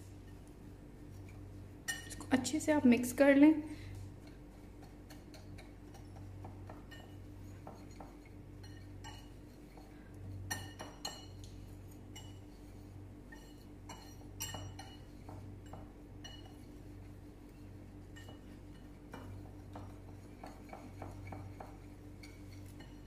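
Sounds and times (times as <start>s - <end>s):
whisk clinking against bowl: 4.2s - 23.0s.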